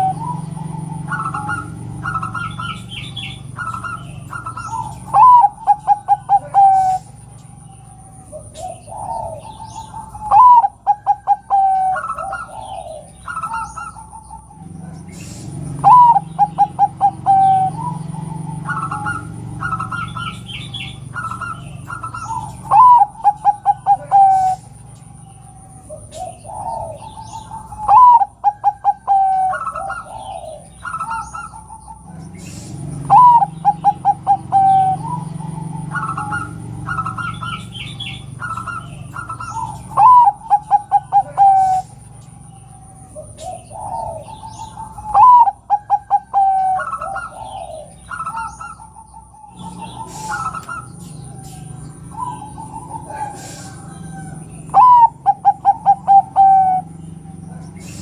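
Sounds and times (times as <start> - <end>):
dove cooing: 0.0 - 58.0
high bird chirps: 0.0 - 58.0.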